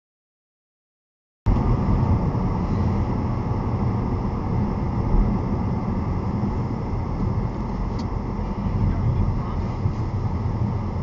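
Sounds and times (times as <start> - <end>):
car interior road rumble: 1.5 - 11.0.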